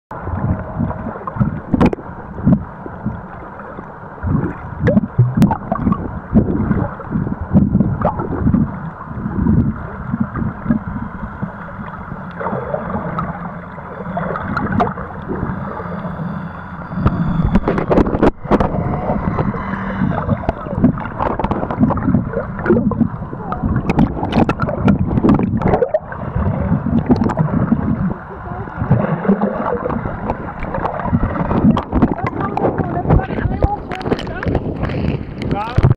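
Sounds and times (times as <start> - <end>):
underwater water sloshing: 0.1 - 35.9.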